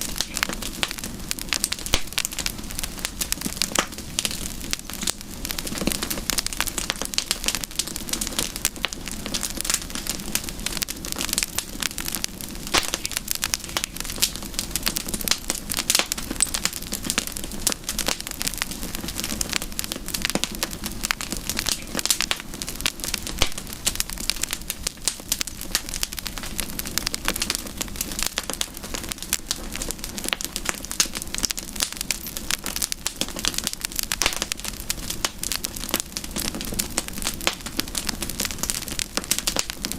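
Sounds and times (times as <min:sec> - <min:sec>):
low rush of flame: 0:00.0 - 0:39.9
wood crackling in campfire: 0:00.0 - 0:39.9.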